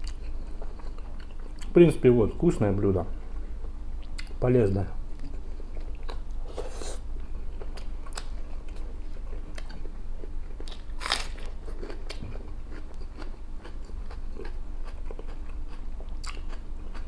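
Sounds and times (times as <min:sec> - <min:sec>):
man chewing food: 0:00.0 - 0:01.8, 0:03.6 - 0:04.4, 0:05.1 - 0:17.0.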